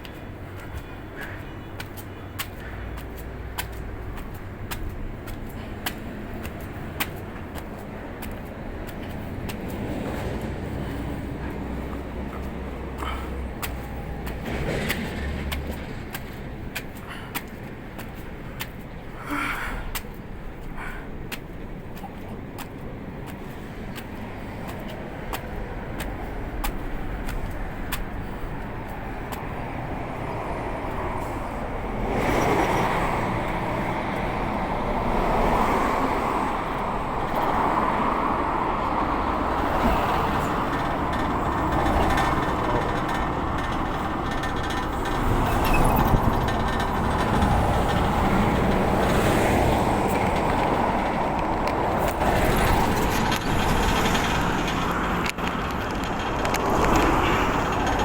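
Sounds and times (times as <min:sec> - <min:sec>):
bus diesel engine running: 0:00.0 - 0:58.0
road traffic noise: 0:00.0 - 0:58.0.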